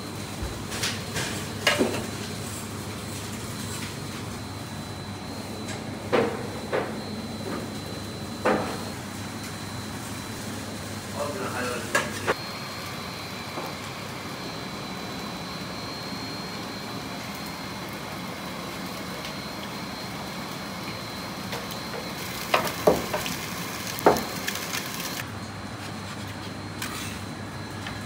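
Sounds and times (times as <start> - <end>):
kitchen hum with high whine: 0.0 - 28.0.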